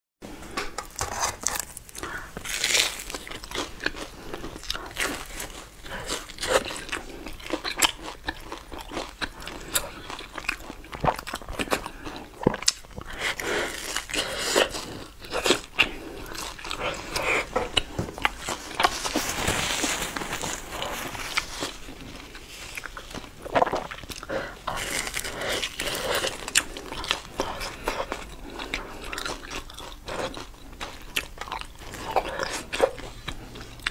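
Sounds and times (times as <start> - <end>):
wet chewing: 1.0 - 33.9
crunchy bites: 1.4 - 33.9.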